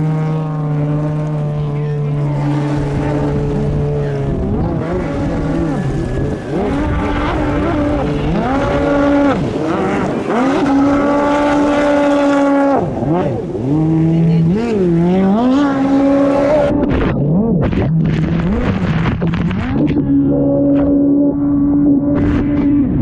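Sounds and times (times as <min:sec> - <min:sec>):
jet ski engine revving: 0:00.0 - 0:23.0.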